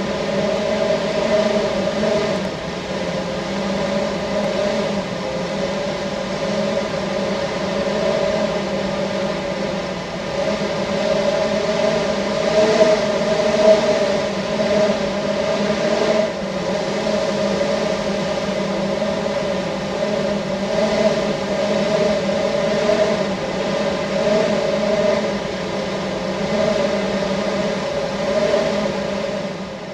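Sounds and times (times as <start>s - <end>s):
humming drone: 0.0s - 29.9s.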